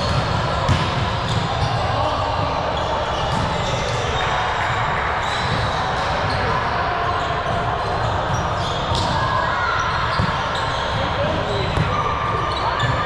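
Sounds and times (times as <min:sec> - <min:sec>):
background chatter: 0:00.0 - 0:13.0.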